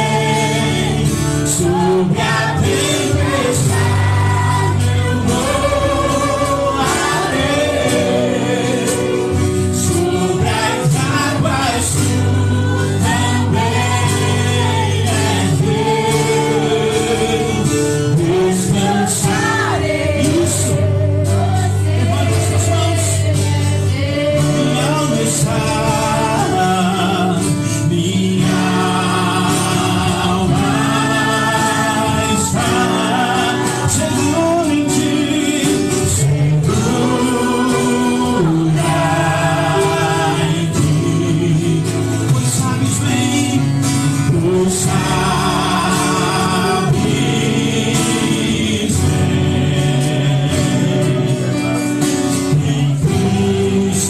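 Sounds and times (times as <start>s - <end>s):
instrumental accompaniment: 0.0s - 54.0s
people singing worship song: 0.0s - 54.0s.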